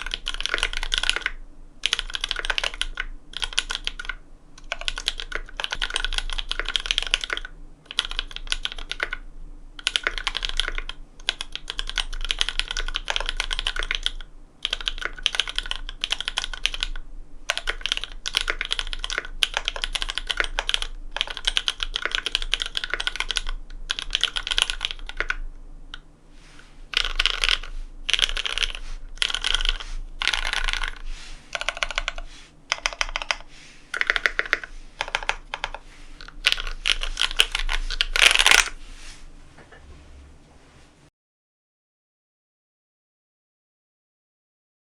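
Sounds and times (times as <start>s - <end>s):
mechanical keyboard typing: 0.0s - 9.2s, 9.8s - 26.0s, 26.9s - 38.7s.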